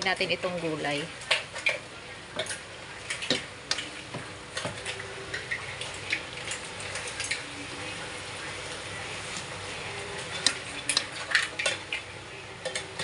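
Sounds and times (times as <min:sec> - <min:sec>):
light sizzle: 0:00.0 - 0:13.0.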